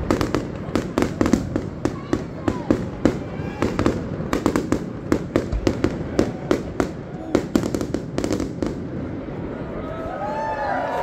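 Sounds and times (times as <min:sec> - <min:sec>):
fireworks bangs and cracks: 0:00.0 - 0:09.8.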